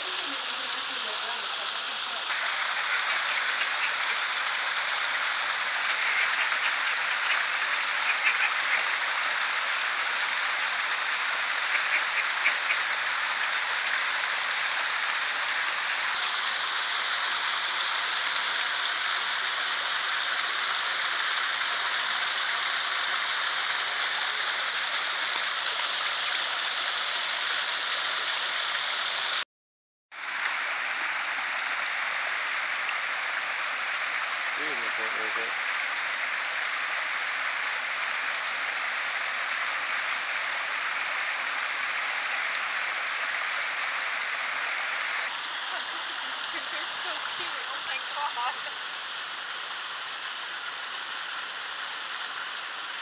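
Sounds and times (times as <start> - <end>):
small waterfall splashing: 0.0 - 29.4, 30.1 - 53.0.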